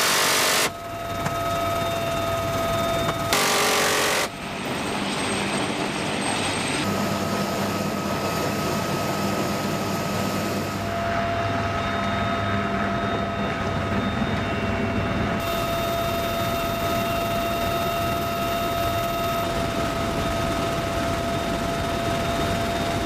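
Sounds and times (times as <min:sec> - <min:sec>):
helicopter turbine whine: 0:00.0 - 0:23.0
low rotor hum: 0:00.0 - 0:23.0.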